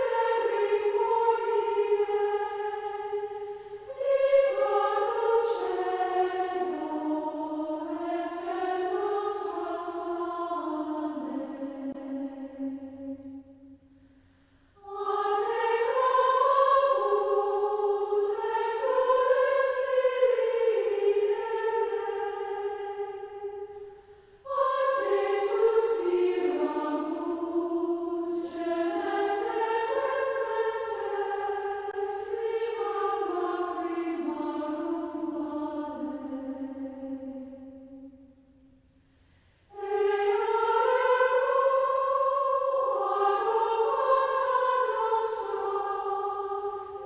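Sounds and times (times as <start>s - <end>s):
choir singing a hymn: 0.0s - 38.7s, 39.6s - 47.0s.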